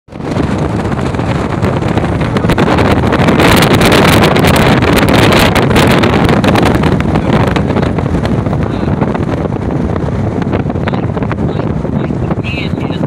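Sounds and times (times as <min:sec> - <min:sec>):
moving vehicle rumble: 0:00.1 - 0:13.0
wind buffeting microphone: 0:00.1 - 0:13.0.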